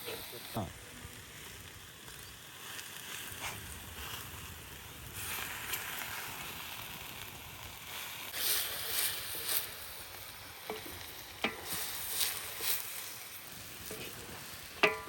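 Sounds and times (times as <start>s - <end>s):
fire hissing and crackling: 0.0s - 15.0s.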